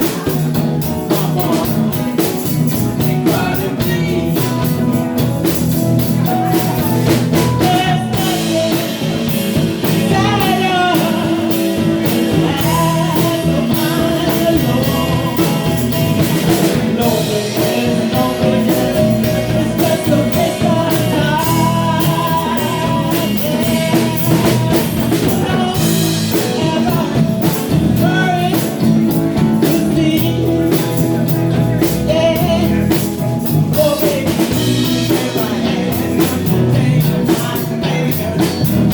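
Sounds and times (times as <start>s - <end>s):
drums and guitar band: 0.0s - 38.9s
person singing: 0.0s - 38.9s.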